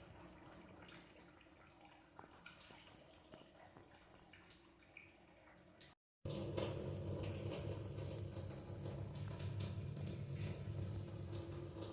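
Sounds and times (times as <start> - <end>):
water running from tap: 0.0 - 11.9.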